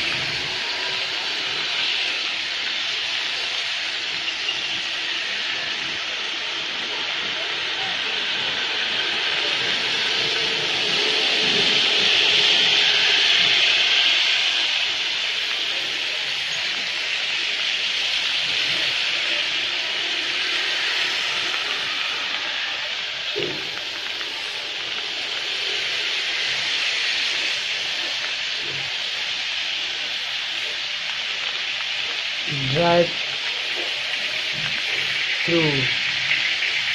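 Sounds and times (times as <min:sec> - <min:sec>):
rain hissing: 0:00.0 - 0:36.9
traffic on wet street: 0:00.0 - 0:36.9.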